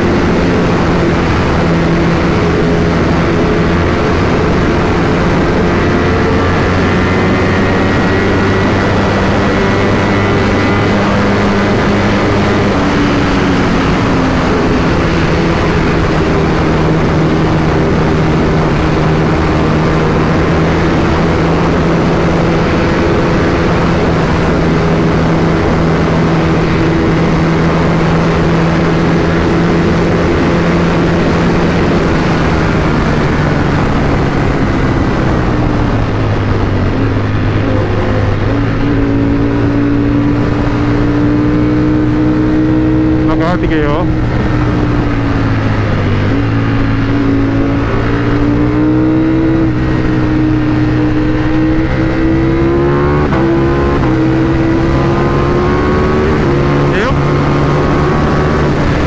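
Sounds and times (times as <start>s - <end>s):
motorcycle engine accelerating: 0.0s - 59.0s
wind noise on microphone: 0.0s - 59.0s.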